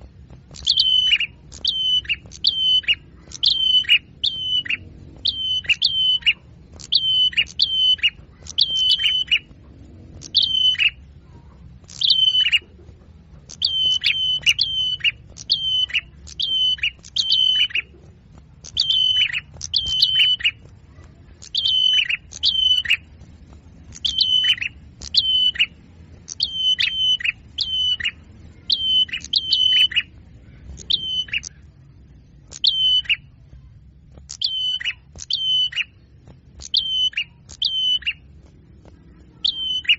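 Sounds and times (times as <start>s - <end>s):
songbird call notes: 0.6s - 9.5s, 10.2s - 11.0s, 11.9s - 12.7s, 13.5s - 17.9s, 18.6s - 23.1s, 23.9s - 33.7s, 34.3s - 36.0s, 36.6s - 38.3s, 39.0s - 39.9s.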